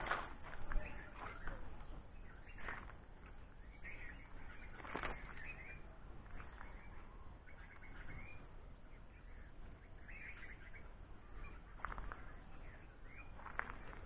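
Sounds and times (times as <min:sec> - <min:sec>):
faint bird calls: 0:00.6 - 0:14.0.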